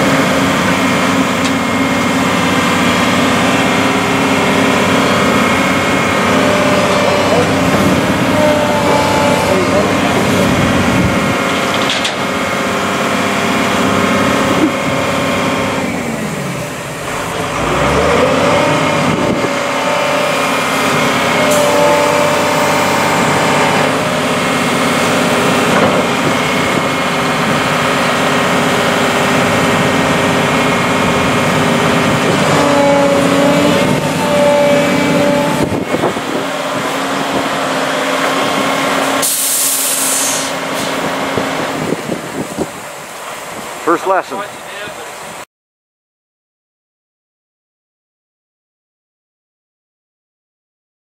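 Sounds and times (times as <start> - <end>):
road noise: 0.0 - 45.4
truck engine running: 0.0 - 45.4.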